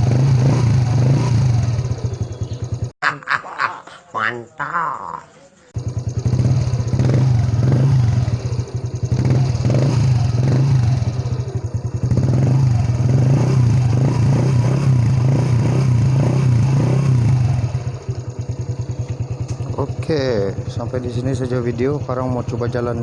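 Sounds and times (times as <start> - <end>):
motorcycle engine revving: 0.0 - 3.0, 5.8 - 23.0.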